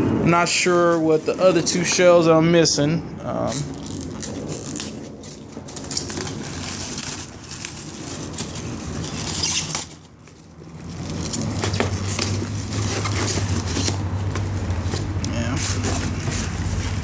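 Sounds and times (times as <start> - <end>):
steady low hum: 0.0 - 17.0
cardboard and plastic rustling: 0.4 - 2.4, 3.2 - 17.0.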